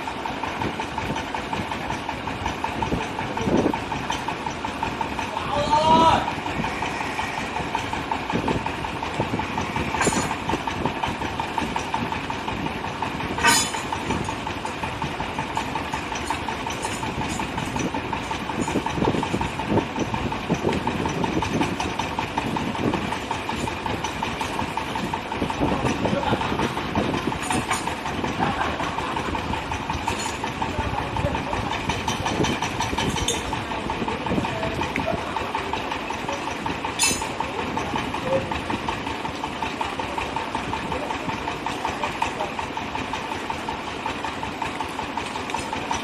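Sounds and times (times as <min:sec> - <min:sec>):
drilling rig hammering: 0:00.0 - 0:46.0.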